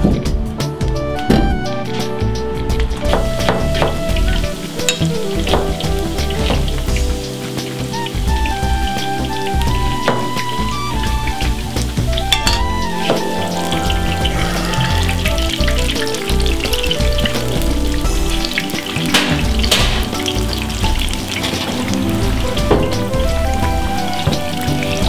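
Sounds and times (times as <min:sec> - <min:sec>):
background music: 0:00.0 - 0:25.0
food deep-frying in oil: 0:00.0 - 0:25.0.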